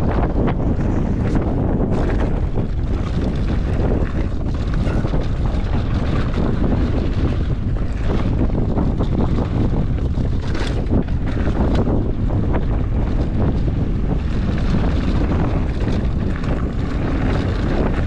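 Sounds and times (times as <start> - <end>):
bike knocking and rattling over rock: 0.0 - 18.0
wind buffeting microphone: 0.0 - 18.0.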